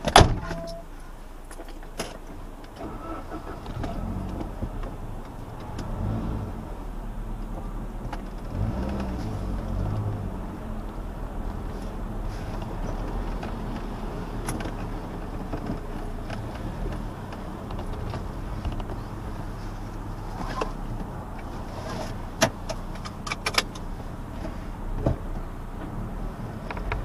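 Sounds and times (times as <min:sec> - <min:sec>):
car engine and road hum: 0:00.0 - 0:27.0.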